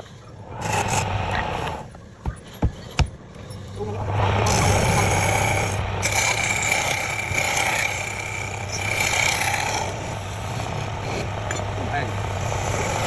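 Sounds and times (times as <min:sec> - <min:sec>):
lathe humming: 0:00.0 - 0:13.0
turning tool scraping wood: 0:00.0 - 0:13.0.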